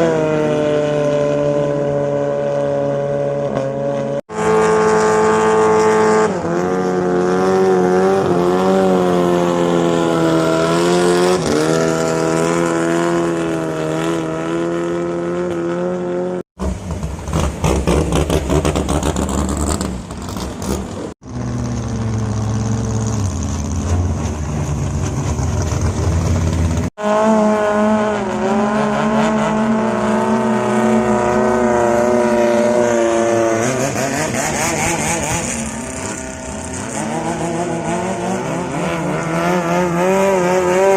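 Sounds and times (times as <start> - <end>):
boat engines running at high revs: 0.0 - 40.9.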